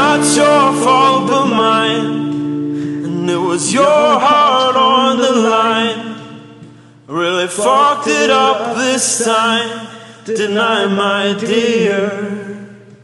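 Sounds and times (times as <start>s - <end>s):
men singing together: 0.0s - 2.4s, 3.0s - 6.5s, 7.1s - 13.0s.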